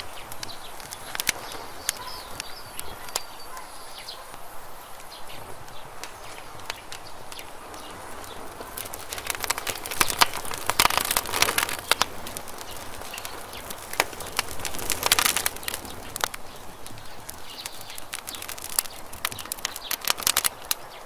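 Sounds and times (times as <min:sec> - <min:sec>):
campfire crackling and popping: 0:00.0 - 0:21.0
faint steady hiss: 0:00.0 - 0:21.0.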